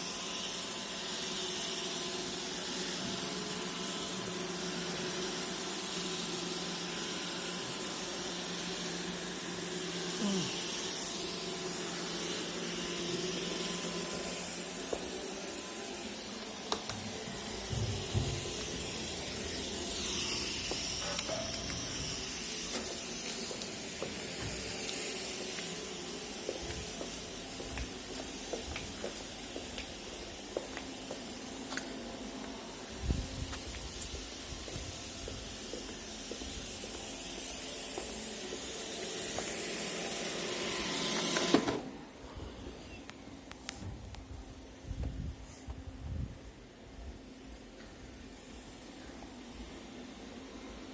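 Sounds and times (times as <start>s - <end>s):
robot vacuum hissing: 0.0s - 44.0s.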